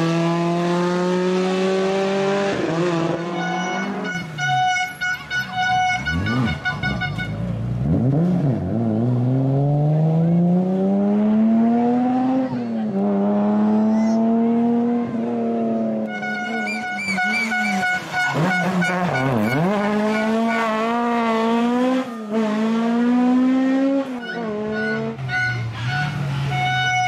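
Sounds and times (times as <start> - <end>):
rally car engines revving: 0.0 - 27.0.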